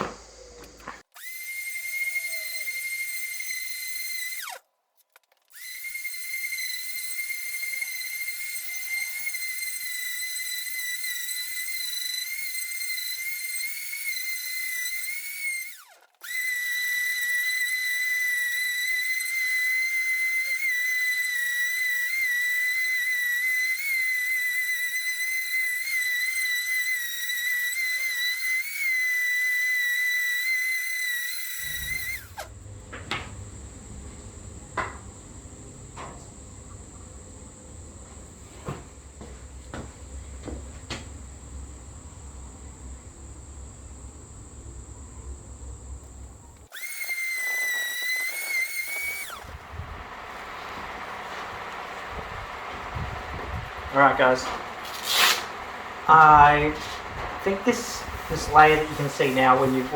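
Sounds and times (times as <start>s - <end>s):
orbital sander whining: 0.0s - 4.6s, 5.6s - 59.9s.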